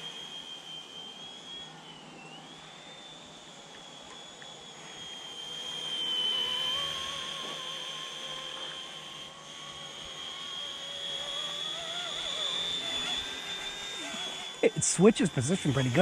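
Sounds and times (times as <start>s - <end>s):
rc helicopter rotor whine: 0.0s - 16.0s.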